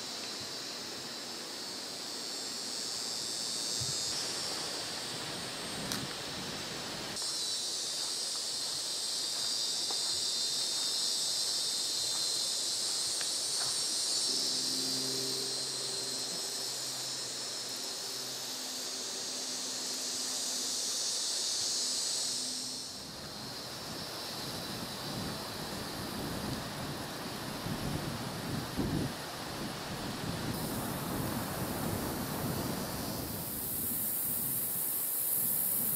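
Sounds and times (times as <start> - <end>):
insect chorus buzzing: 0.0 - 35.9.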